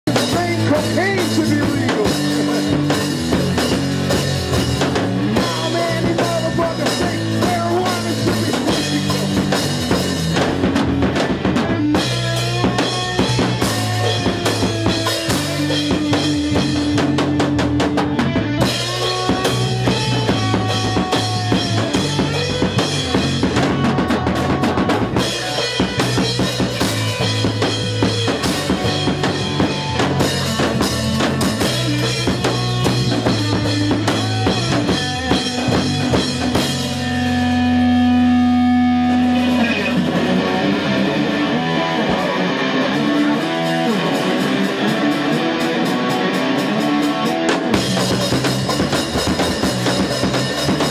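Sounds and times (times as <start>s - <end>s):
drum kit beat: 0.1s - 50.9s
electric guitars sustained notes: 0.1s - 50.9s.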